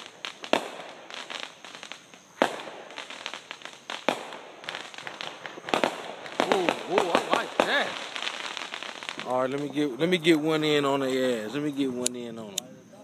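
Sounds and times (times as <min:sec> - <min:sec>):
loud firework bangs: 0:00.0 - 0:12.1
firecrackers popping and crackling: 0:00.0 - 0:12.6.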